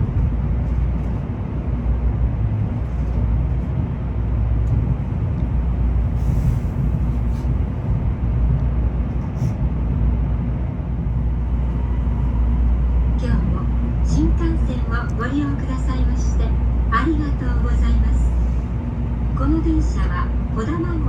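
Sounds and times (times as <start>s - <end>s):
train cabin rumble: 0.0s - 21.0s.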